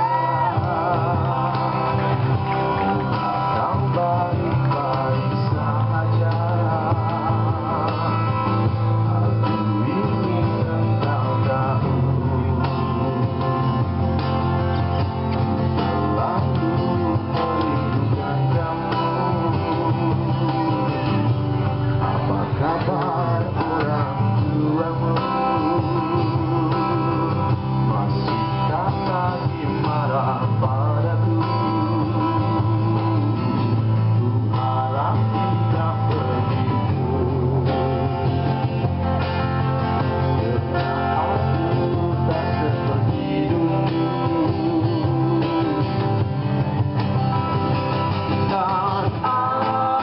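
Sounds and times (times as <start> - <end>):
electric guitars: 0.0 - 50.0
live band playing: 0.0 - 50.0
steady bass: 0.0 - 50.0.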